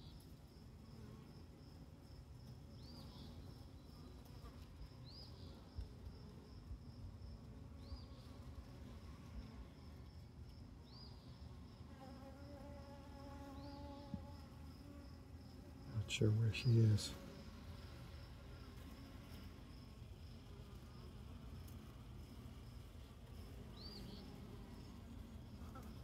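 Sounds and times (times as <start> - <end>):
honeybee colony buzzing: 0.0 - 26.0
queen bee piping: 0.0 - 26.0.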